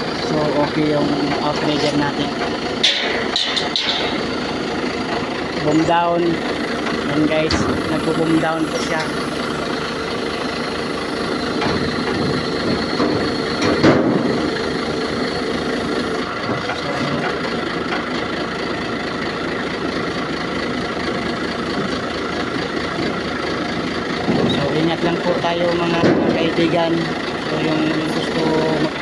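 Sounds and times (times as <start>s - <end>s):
hydraulics lowering boom: 0.0s - 17.5s, 22.5s - 29.0s
truck engine running: 0.0s - 29.0s.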